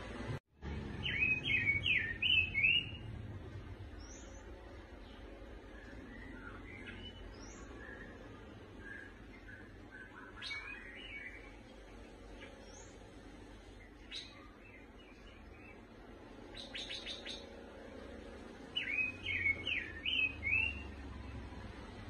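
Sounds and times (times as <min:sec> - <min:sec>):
lovebird chirping: 0:00.8 - 0:21.6.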